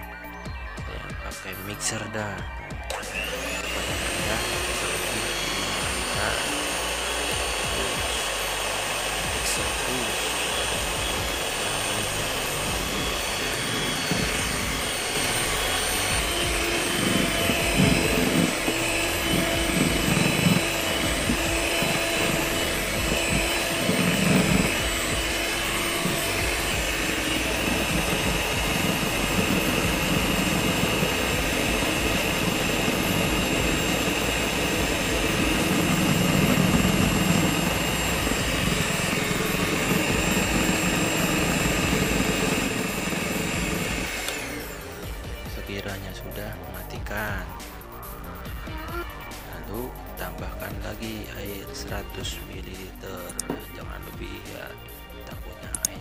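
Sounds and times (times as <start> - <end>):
electric hand mixer whirring: 0.0 - 56.0.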